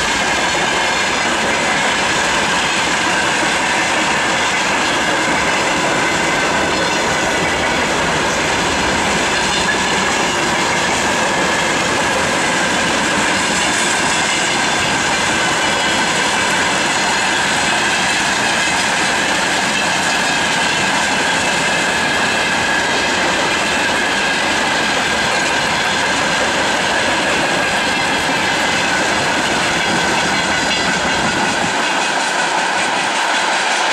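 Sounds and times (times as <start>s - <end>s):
train wheels rushing on track: 0.0s - 33.9s.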